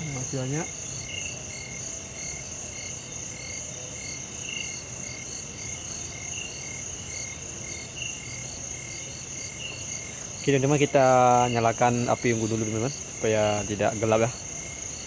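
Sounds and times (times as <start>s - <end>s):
frogs calling: 0.0s - 15.0s
high insect drone: 0.0s - 15.0s.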